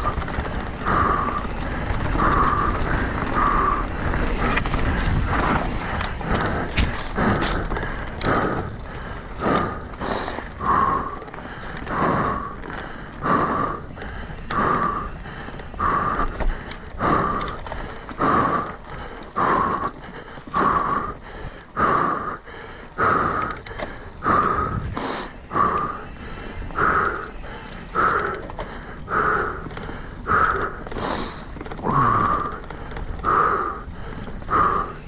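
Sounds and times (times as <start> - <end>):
person breathing hard: 0.0 - 35.0.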